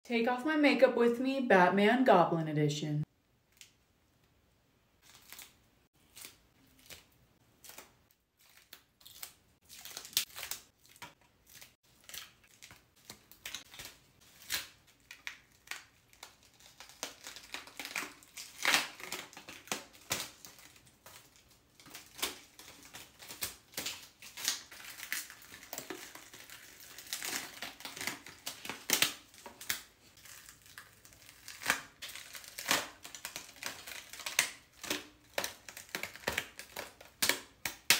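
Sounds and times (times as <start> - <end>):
prosthetics crackling as peeled off: 5.0 - 37.9.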